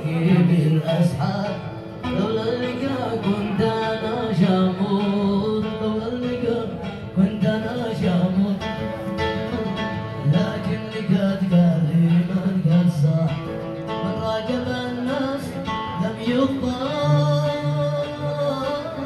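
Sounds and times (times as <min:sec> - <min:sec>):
person singing: 0:00.0 - 0:19.0
plucked string instrument: 0:00.0 - 0:19.0.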